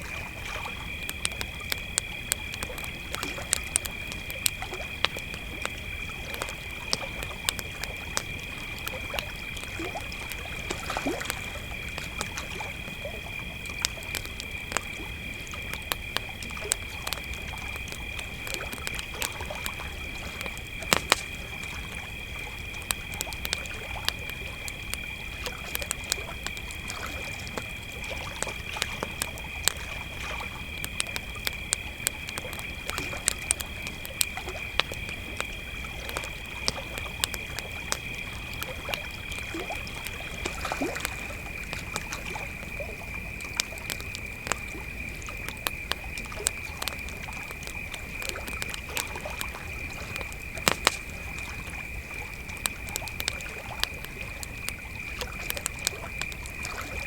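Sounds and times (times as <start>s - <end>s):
campfire crackling and popping: 0.0s - 57.0s
crickets trilling: 0.0s - 57.0s.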